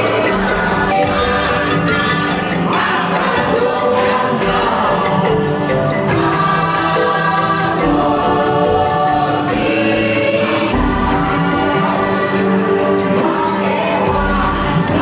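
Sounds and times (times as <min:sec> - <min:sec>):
choir singing chant-like chords: 0:00.0 - 0:15.0
music: 0:00.0 - 0:15.0.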